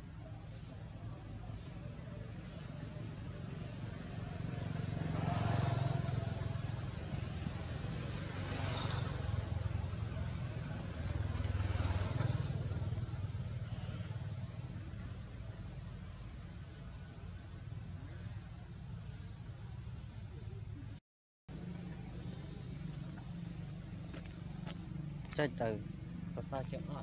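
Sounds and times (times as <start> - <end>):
distant traffic rumble: 0.0 - 27.0.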